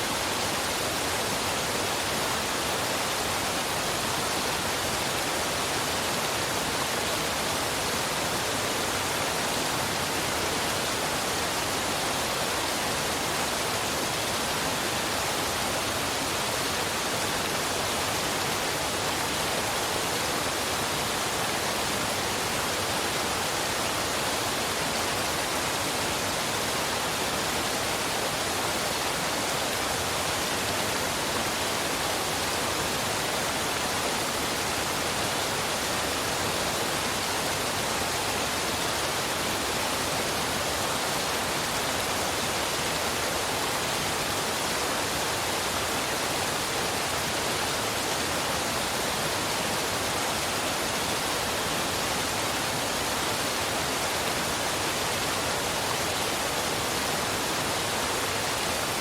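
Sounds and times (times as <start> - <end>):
waterfall and river rushing: 0.0 - 59.0.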